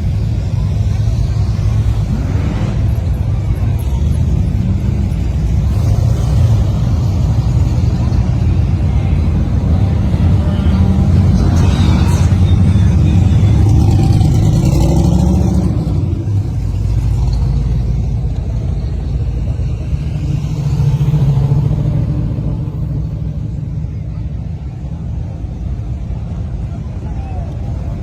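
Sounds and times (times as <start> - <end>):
muscle car engine running: 0.0 - 28.0.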